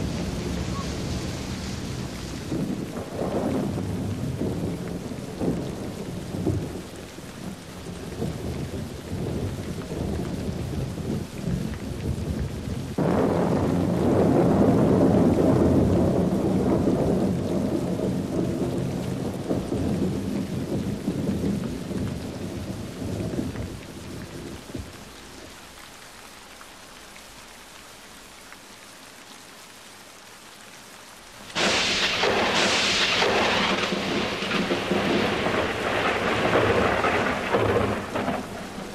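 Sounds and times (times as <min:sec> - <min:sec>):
sharp crack of thunder: 0:00.0 - 0:25.1, 0:31.4 - 0:38.9
rolling thunder: 0:00.0 - 0:25.2, 0:31.5 - 0:38.9
rain: 0:00.0 - 0:38.9.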